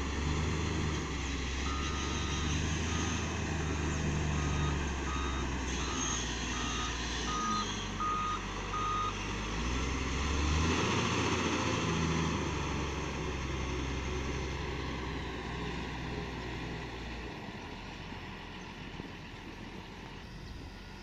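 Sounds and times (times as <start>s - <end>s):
wheel loader diesel engine: 0.0s - 21.0s.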